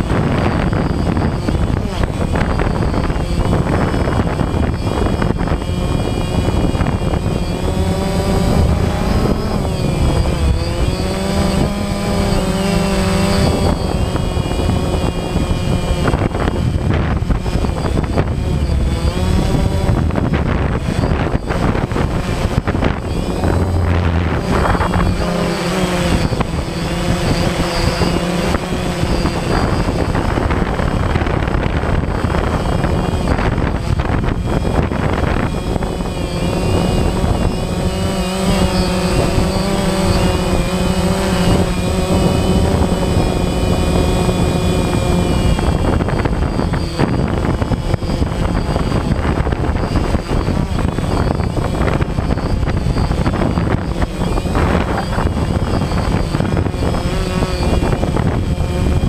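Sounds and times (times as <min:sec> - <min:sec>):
drone motors whining: 0:00.0 - 0:59.0.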